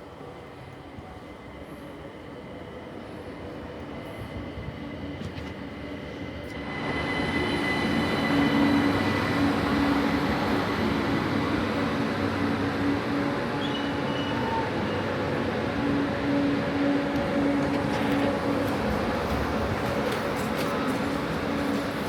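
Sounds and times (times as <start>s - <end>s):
electric train rumble: 0.0s - 22.0s
high whine from train drive: 3.8s - 22.0s.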